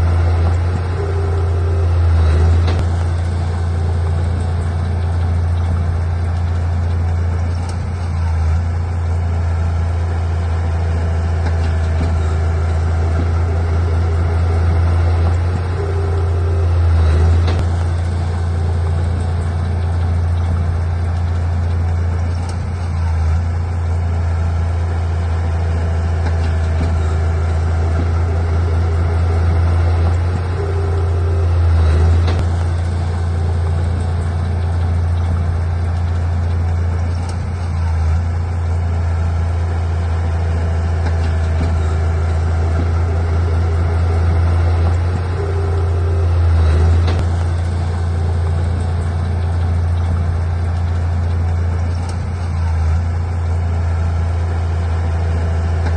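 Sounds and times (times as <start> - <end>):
heavy diesel engine humming: 0.0 - 55.9.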